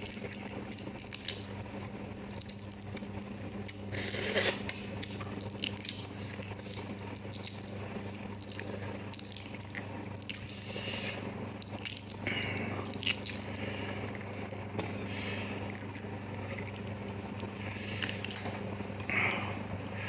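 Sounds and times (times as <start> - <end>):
wet chewing and biting: 0.0 - 19.1
steady low hum: 0.0 - 20.0.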